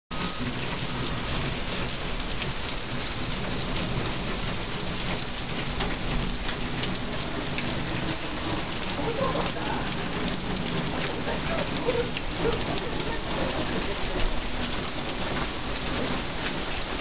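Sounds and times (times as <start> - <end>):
heavy rain: 0.1 - 17.0
raindrops on car roof: 0.1 - 17.0.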